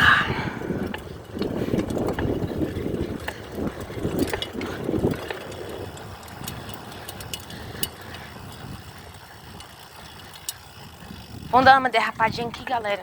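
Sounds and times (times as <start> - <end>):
bicycle frame rattling: 0.3 - 13.0
bicycle rolling over dirt: 0.6 - 13.0.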